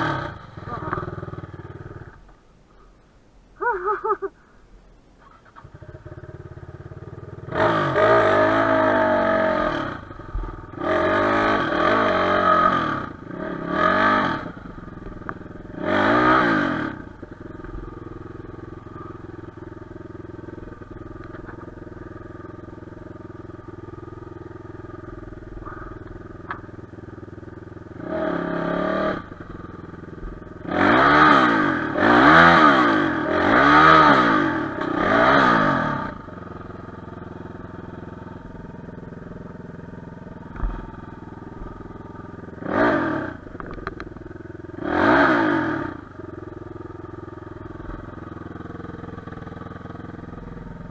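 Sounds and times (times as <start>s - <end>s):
motorcycle throttle revs: 0.0s - 2.2s, 5.2s - 50.9s
motorcycle engine idling: 0.0s - 2.5s, 5.2s - 50.9s.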